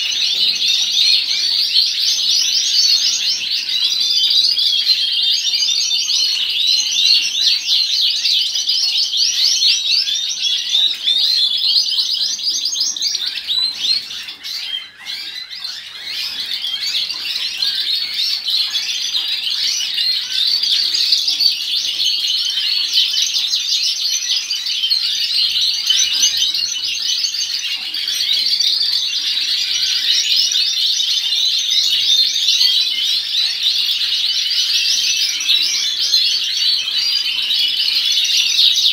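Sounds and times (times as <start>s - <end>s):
canaries trilling and chirping: 0.0s - 38.9s.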